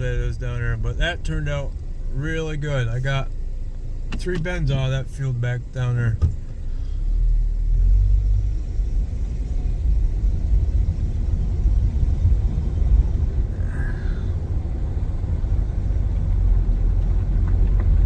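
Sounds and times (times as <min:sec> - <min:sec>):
vehicle rumble from inside cab: 0:00.0 - 0:18.0.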